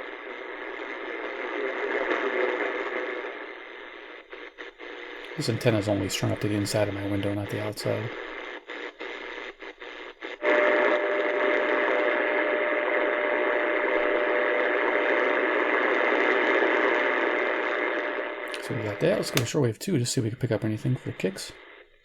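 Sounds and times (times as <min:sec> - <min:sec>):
radio static: 0:00.0 - 0:22.0.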